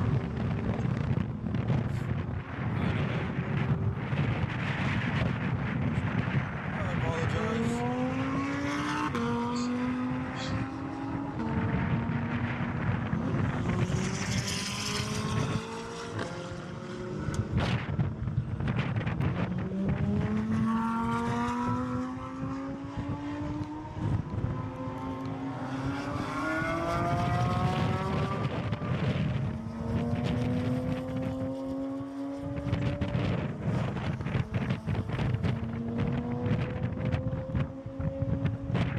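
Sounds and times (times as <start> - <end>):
car engine accelerating: 0.0 - 38.9
wind noise: 0.0 - 38.9.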